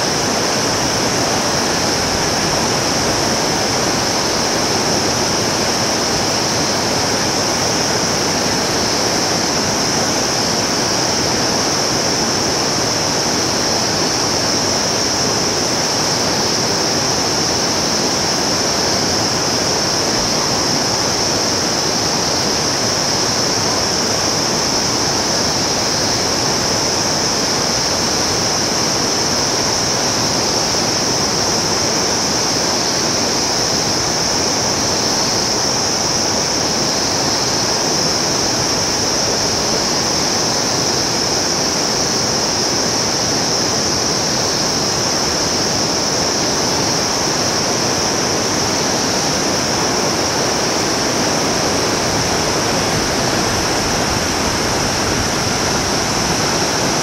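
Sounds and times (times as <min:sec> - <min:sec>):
river rushing over boulders: 0:00.0 - 0:57.0.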